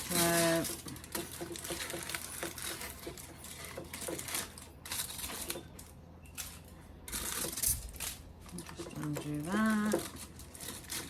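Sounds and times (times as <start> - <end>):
kitchen items clicking and tapping: 0.0 - 11.0
rustling: 0.0 - 11.0.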